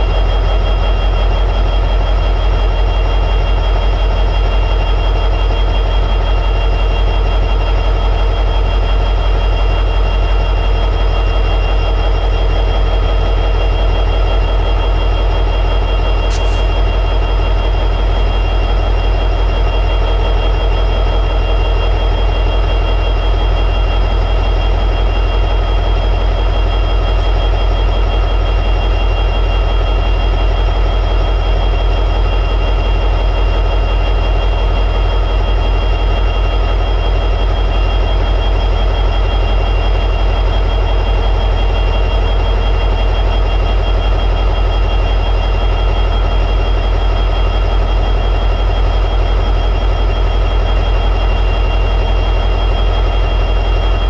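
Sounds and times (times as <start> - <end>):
diesel locomotive idling: 0.0 - 54.0
high-pitched whine: 9.0 - 54.0.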